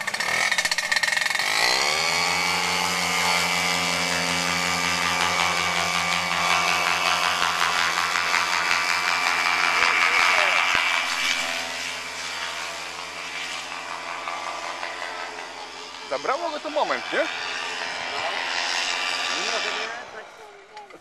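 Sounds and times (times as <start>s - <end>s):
paramotor engine revving: 0.0s - 21.0s.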